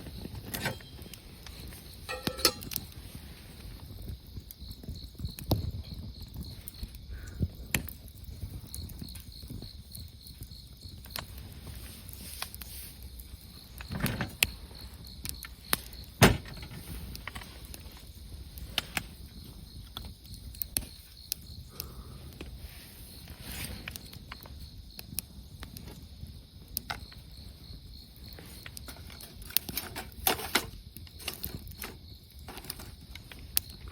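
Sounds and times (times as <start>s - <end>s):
insect chirping: 0.0s - 33.9s
wood fire crackling: 0.0s - 33.9s.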